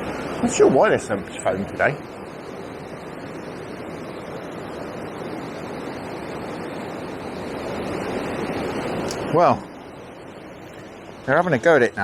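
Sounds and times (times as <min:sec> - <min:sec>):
water rushing through weir: 0:00.0 - 0:12.0.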